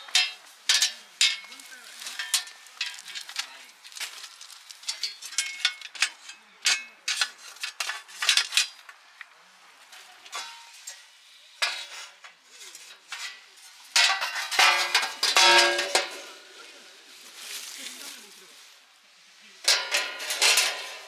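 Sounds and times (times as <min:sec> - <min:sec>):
steel plates clanking and scraping: 0:00.0 - 0:09.1, 0:10.0 - 0:16.9, 0:19.6 - 0:21.0.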